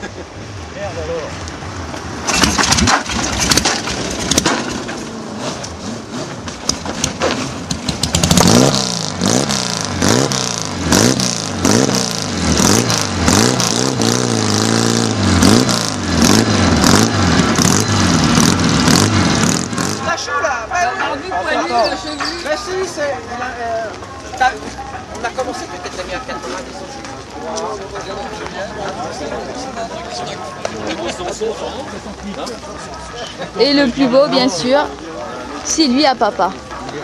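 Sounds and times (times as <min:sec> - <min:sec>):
sidecar engine blipping: 0:02.1 - 0:36.8.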